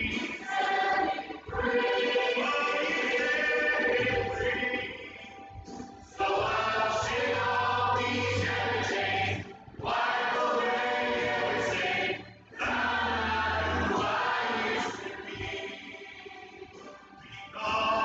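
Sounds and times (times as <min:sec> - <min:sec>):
choir singing worship song: 0:00.0 - 0:18.0.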